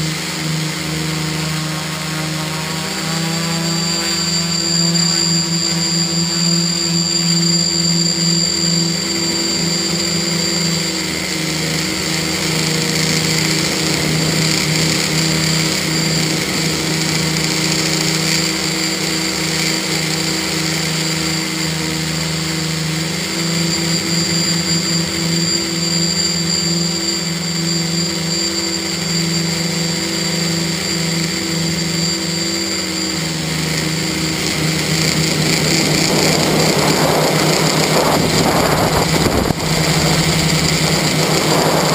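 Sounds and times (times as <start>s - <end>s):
drone motors buzzing: 0.0s - 41.9s.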